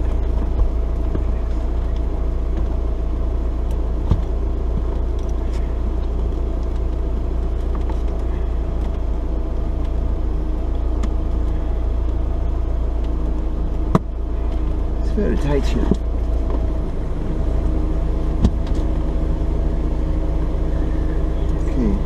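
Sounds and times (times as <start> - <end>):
faint steady tones: 0.0 - 22.0
low rumble: 0.0 - 22.0.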